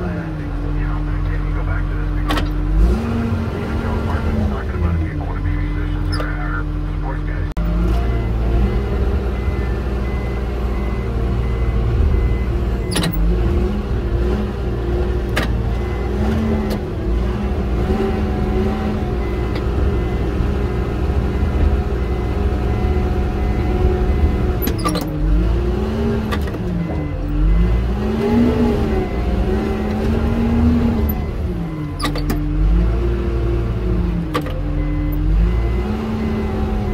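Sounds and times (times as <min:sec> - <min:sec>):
bulldozer diesel engine running: 0:00.0 - 0:36.9.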